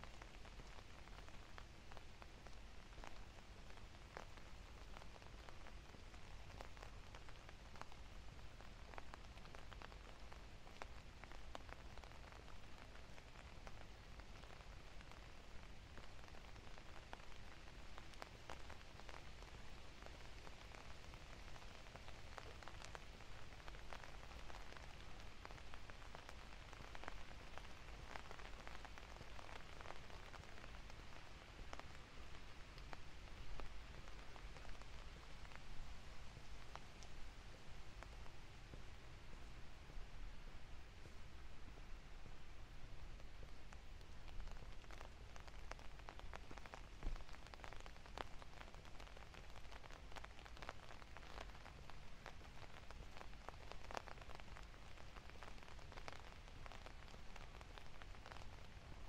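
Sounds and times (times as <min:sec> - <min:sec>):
light rain falling: 0:00.0 - 0:59.0
raindrops ticking on surfaces: 0:00.0 - 0:59.0.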